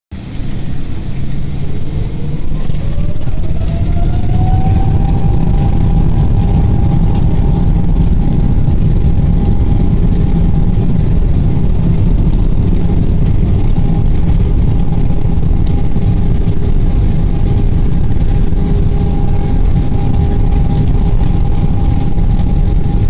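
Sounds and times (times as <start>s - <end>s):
jet engines spooling up: 0.2s - 23.0s.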